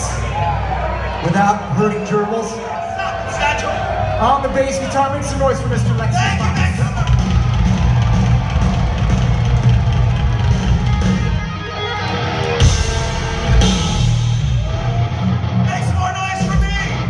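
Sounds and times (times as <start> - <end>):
live metal band playing: 0.0 - 17.0.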